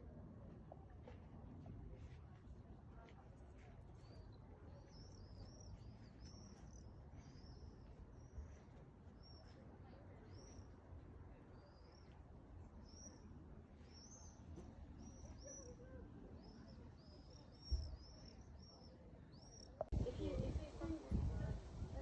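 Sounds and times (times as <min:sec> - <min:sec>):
songbird chirping: 0:03.0 - 0:21.9.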